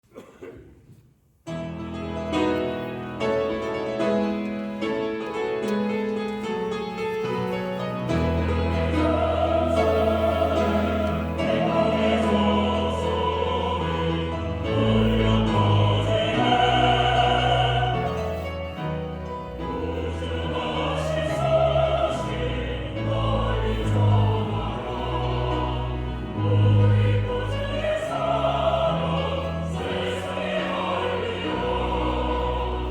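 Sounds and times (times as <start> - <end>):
church choir singing: 1.6 - 32.9.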